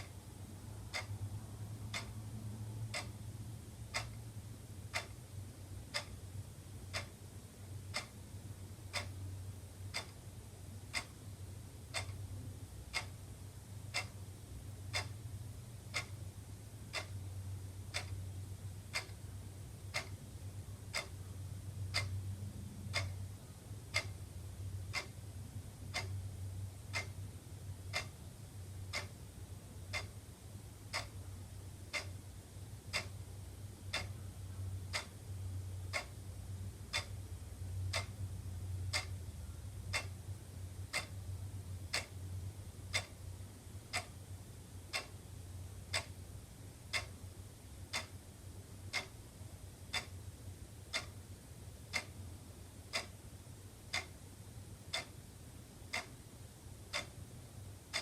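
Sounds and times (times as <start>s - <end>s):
low steady hum: 0.0s - 58.0s
wall clock ticking: 0.0s - 58.0s.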